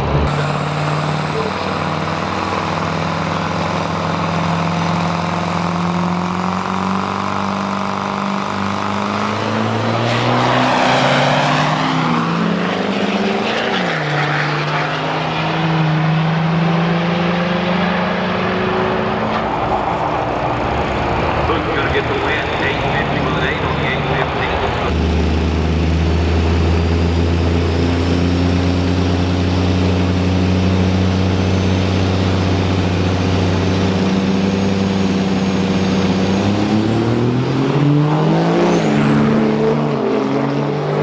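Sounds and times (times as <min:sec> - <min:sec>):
truck engines running hard: 0:00.0 - 0:41.0.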